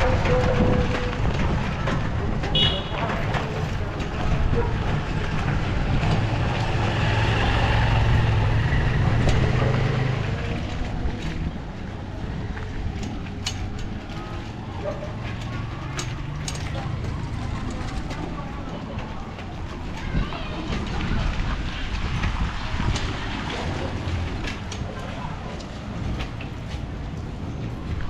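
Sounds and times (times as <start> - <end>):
motor vehicles running: 0.0 - 28.0.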